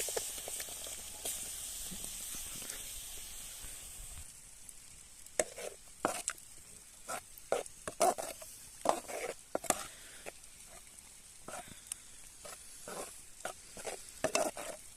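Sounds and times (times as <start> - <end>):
utensil scraping a cooking pan: 0.0 - 3.9, 5.4 - 6.4, 7.0 - 11.8, 12.4 - 14.9
faint frying sizzle: 0.0 - 14.9.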